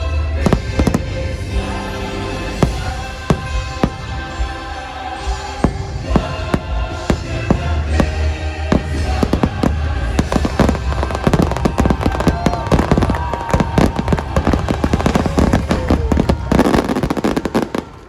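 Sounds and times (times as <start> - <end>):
music with deep bass: 0.0 - 17.4
firework bursts: 0.4 - 18.0.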